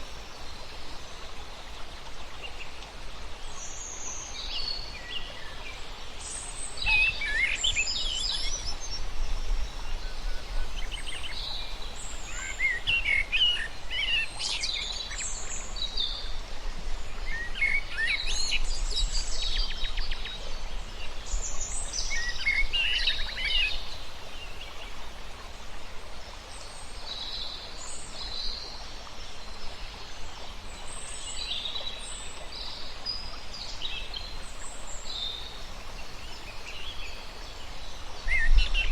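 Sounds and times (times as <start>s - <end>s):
outdoor background noise: 0.0s - 38.9s.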